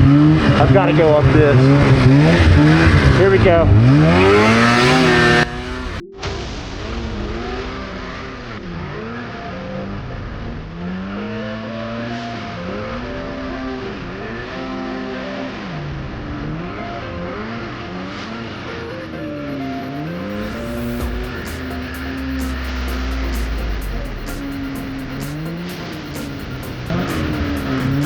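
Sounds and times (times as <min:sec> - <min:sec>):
snowmobile engine revving: 0:00.0 - 0:06.1, 0:10.8 - 0:28.0.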